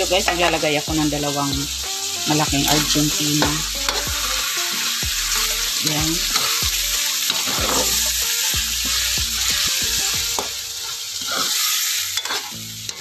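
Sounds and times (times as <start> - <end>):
food sizzling in hot oil: 0.0 - 13.0
metal spatula scraping a pan: 0.0 - 13.0.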